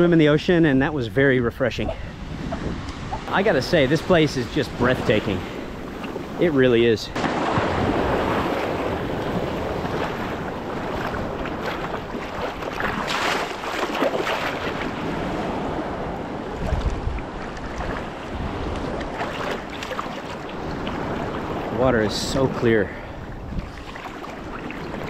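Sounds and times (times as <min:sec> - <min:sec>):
wind buffeting microphone: 0:00.0 - 0:25.0
sea water sloshing and splashing: 0:01.9 - 0:06.4, 0:07.1 - 0:25.0.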